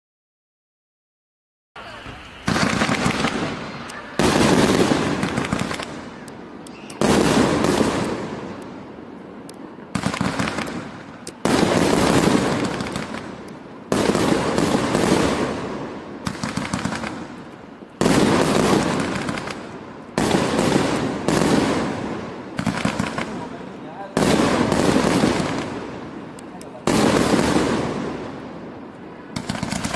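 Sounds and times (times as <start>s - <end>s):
fireworks cake firing volleys: 1.8s - 29.9s.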